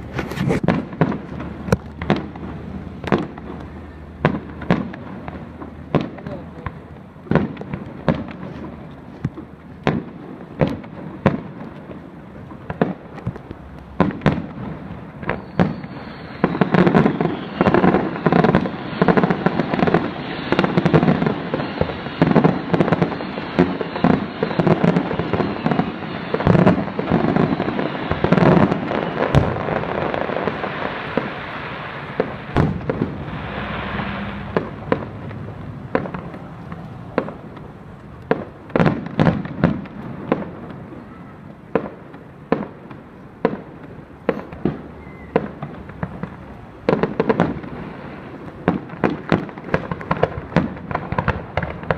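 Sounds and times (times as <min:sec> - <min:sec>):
fireworks bangs and crackling: 0:00.0 - 0:51.9
fireworks booming: 0:00.0 - 0:51.9.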